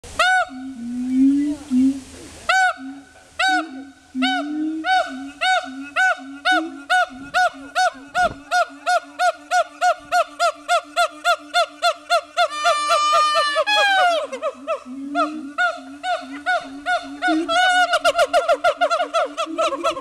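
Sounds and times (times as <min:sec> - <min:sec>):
low wavering hoot: 0:00.2 - 0:20.0
siamangs whooping: 0:02.6 - 0:20.0.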